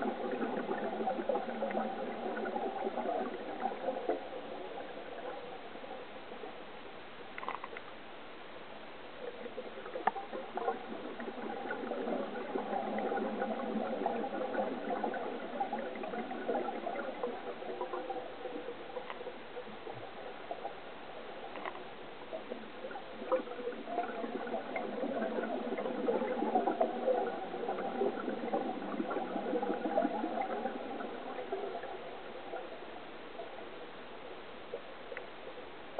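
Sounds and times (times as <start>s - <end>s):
diver's exhaled bubbles underwater: 0.0s - 6.0s, 9.2s - 32.9s
faint water noise: 0.0s - 35.9s.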